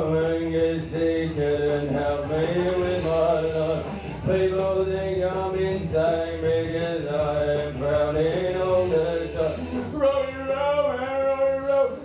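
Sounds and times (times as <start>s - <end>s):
low musical backing: 0.0s - 12.0s
man singing into a microphone: 0.0s - 12.0s.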